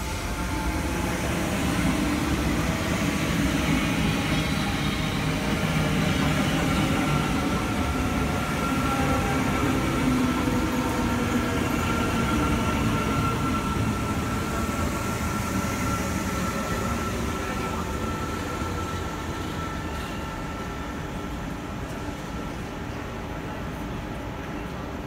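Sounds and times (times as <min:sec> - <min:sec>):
electric train rolling with whine: 0:00.0 - 0:24.9.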